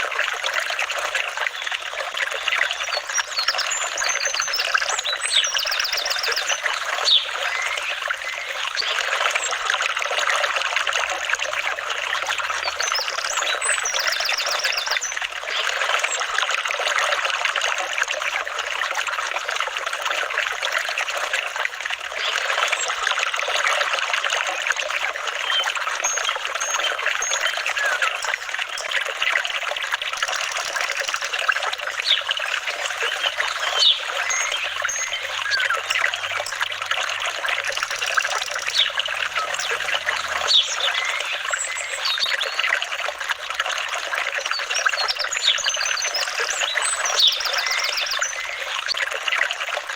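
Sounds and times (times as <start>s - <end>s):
water trickling and babbling: 0.0s - 49.9s.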